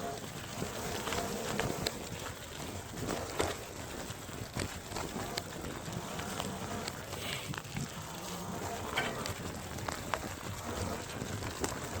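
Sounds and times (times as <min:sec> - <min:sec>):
electric bike rumbling over rough ground: 0:00.0 - 0:12.0
bike clicks and knocks: 0:00.2 - 0:12.0.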